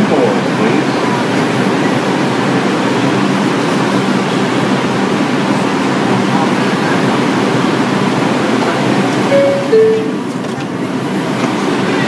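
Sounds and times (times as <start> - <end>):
subway train rumble and hiss: 0.0 - 12.0.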